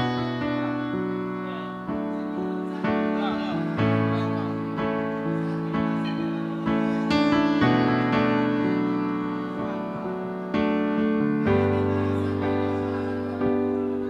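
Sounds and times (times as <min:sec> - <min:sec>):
electric keyboard chords: 0:00.0 - 0:14.0.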